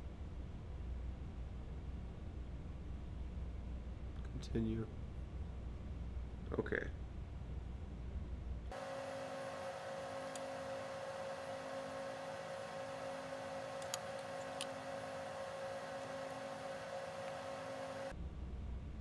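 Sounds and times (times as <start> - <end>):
electrical hum with high hiss: 0.0 - 19.0.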